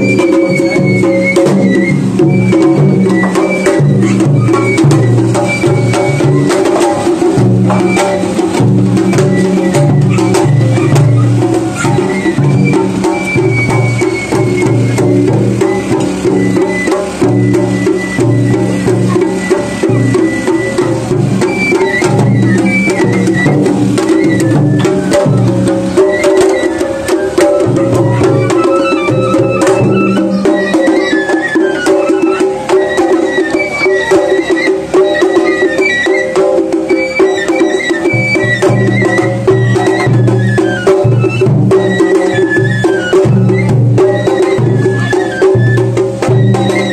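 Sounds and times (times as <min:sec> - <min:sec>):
high flute melody: 0:00.0 - 0:46.9
taiko drums beating: 0:00.0 - 0:46.9.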